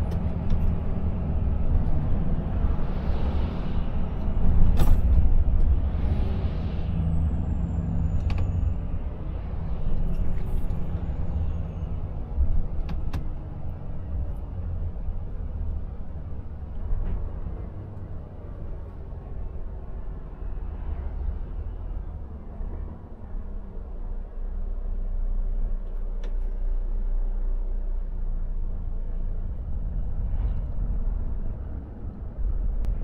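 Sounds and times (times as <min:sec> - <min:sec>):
truck engine and road rumble: 0:00.0 - 0:33.0.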